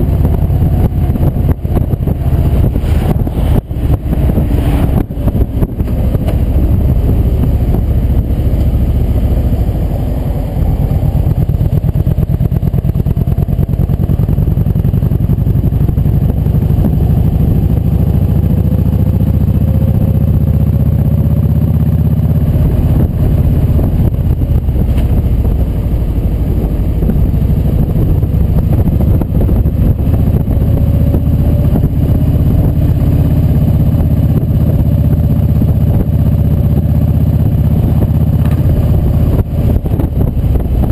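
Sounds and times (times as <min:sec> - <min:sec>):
motorcycle engine running: 0:00.0 - 0:40.9
road noise: 0:00.0 - 0:40.9
wind noise: 0:00.0 - 0:40.9.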